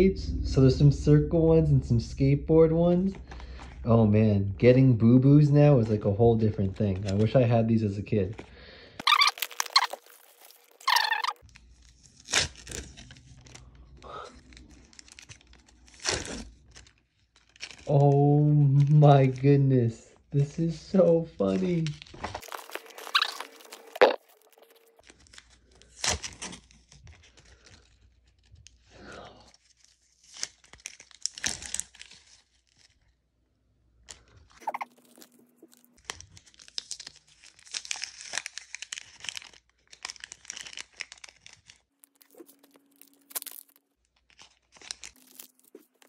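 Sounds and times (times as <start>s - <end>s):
paper wrappers rustling: 5.7s - 28.9s, 29.5s - 33.2s, 34.0s - 46.0s.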